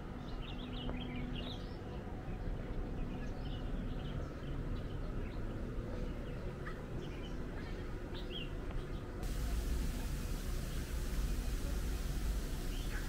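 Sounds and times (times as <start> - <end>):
low city rumble: 0.0 - 13.0
small birds chirping: 0.2 - 13.0.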